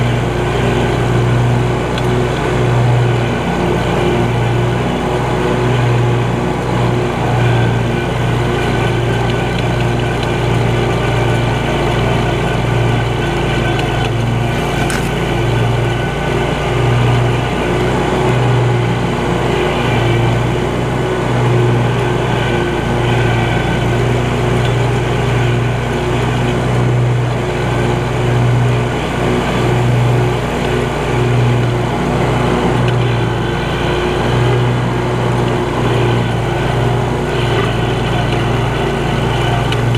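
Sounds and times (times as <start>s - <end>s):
mower engine running: 0.0s - 39.9s.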